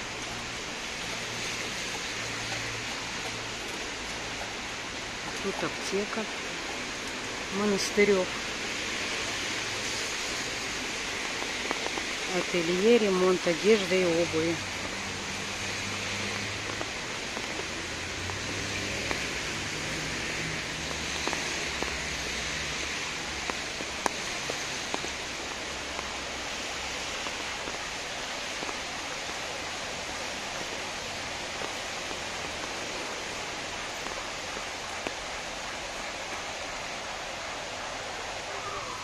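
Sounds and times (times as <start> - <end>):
rain on wet pavement and leaves: 0.0 - 39.0.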